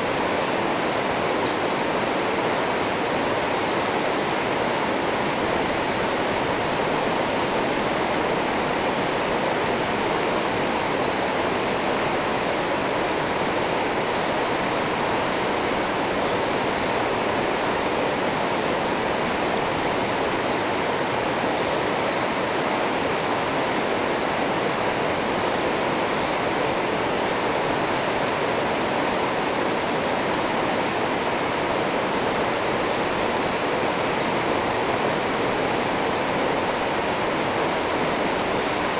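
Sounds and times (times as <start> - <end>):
river rapids rushing over rocks: 0.0 - 38.9.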